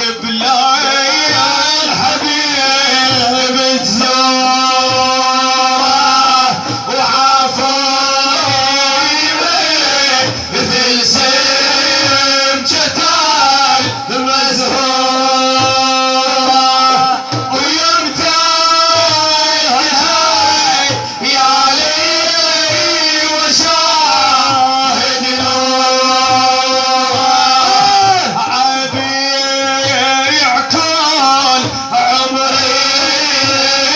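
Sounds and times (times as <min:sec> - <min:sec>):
man singing ornamented melody: 0:00.0 - 0:33.9
music with steady drum beat: 0:00.0 - 0:33.9.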